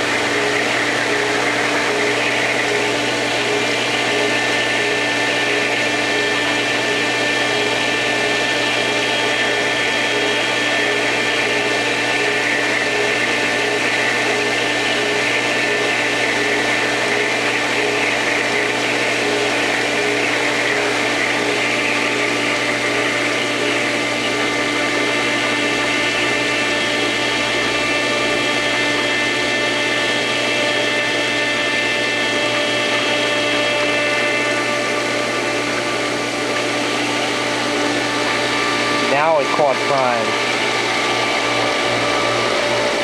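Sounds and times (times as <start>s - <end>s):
pool pump motor humming: 0.0s - 43.0s.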